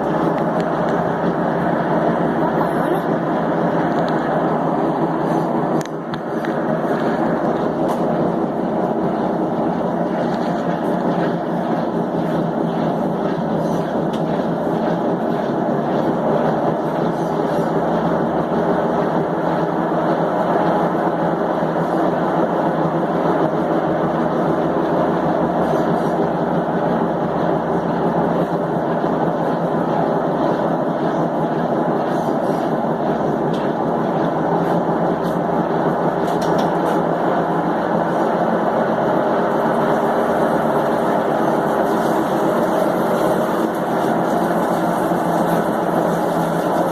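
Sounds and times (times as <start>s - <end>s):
washing machine spinning: 0.0s - 46.9s.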